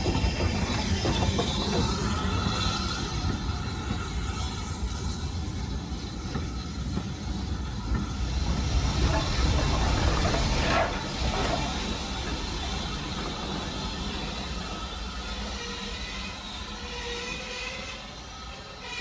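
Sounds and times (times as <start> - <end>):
steam train rumbling on track: 0.0 - 19.0.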